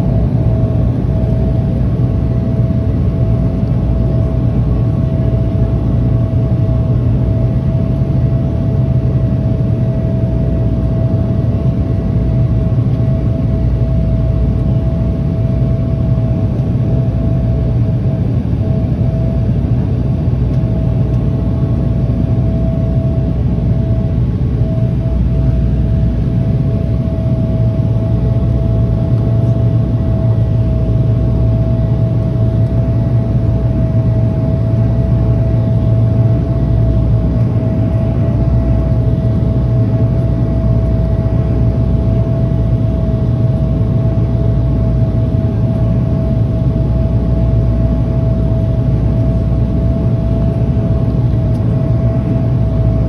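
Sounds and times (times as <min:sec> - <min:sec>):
turboprop engine and propeller drone: 0:00.0 - 0:53.0.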